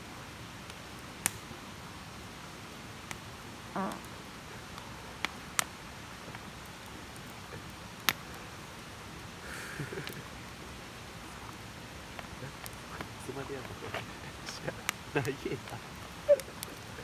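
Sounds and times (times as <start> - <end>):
campfire hissing and crackling: 0.0 - 17.0
sharp fire pops: 0.7 - 1.6, 3.0 - 10.6, 11.3 - 17.0.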